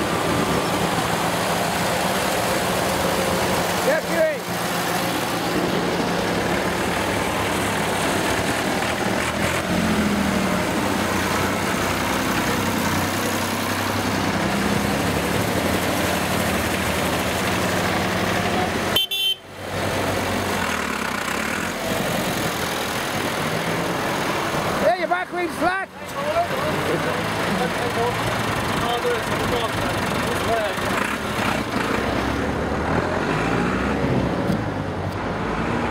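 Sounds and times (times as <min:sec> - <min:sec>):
tractor engine running: 0:00.0 - 0:32.4.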